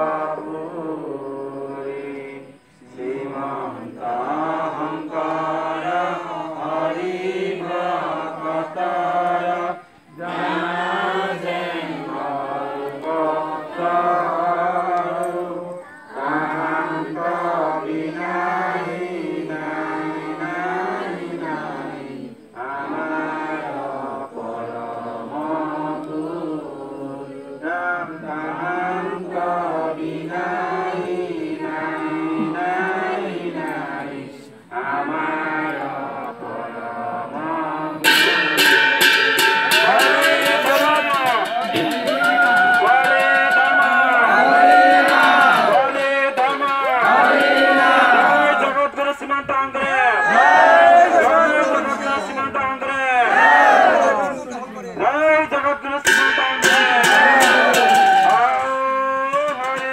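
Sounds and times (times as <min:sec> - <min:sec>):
group chanting a prayer: 0:00.0 - 0:59.9.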